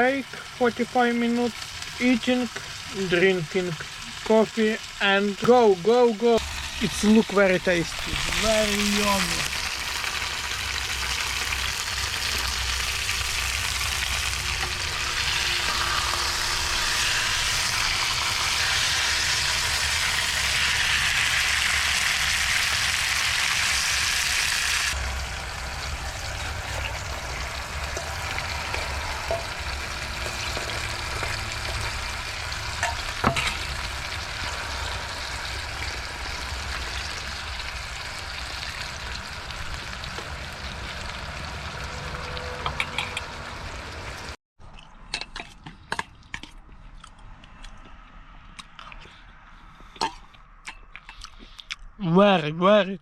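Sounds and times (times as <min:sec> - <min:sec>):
food sizzling in a pan: 0:00.0 - 0:44.4.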